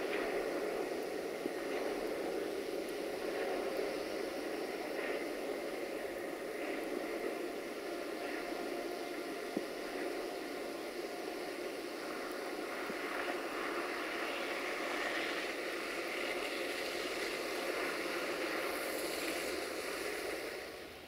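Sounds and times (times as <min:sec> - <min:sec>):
faint engine tones: 0:00.0 - 0:21.0.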